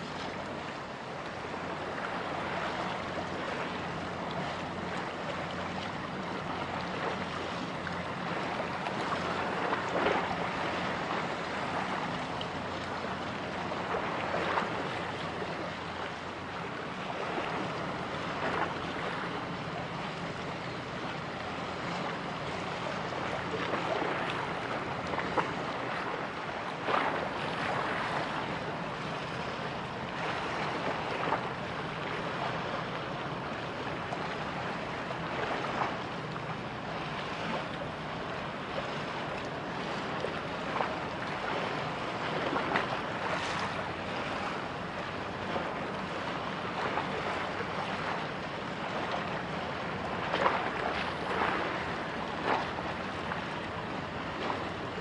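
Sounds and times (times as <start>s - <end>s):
choppy sea water: 0.0s - 55.0s
water splashes: 0.0s - 55.0s.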